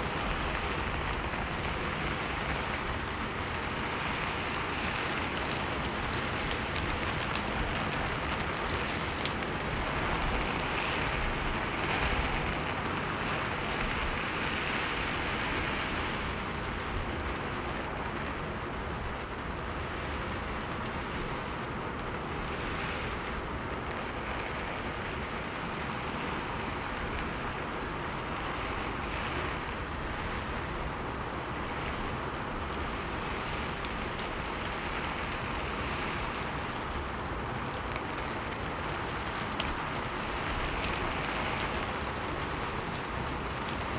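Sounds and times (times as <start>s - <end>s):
rain falling on a roof: 0.0s - 43.9s.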